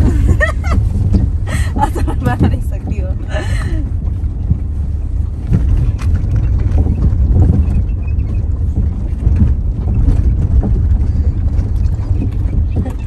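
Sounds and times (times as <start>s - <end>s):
car rumbling on dirt road: 0.0s - 13.0s
knocks and rattles: 0.0s - 13.0s.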